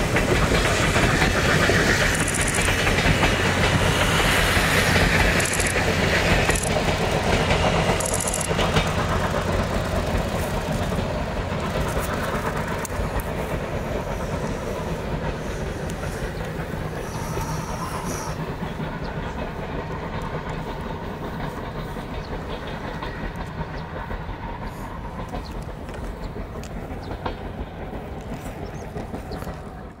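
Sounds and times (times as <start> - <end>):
train wheels clicking over rail joints: 0.0 - 30.0.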